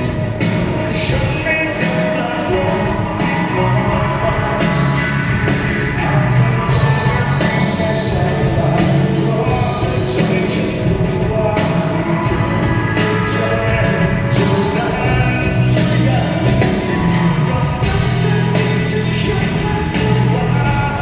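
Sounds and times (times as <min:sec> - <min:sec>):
bass guitar: 0:00.0 - 0:21.0
drum kit with cymbal hits: 0:00.0 - 0:21.0
electric guitar: 0:00.0 - 0:21.0
keyboard: 0:00.0 - 0:21.0
man singing: 0:00.0 - 0:21.0.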